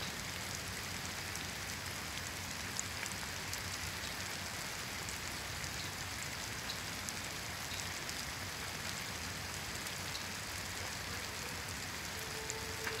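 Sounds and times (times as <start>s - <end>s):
rain falling on leaves: 0.0s - 13.0s.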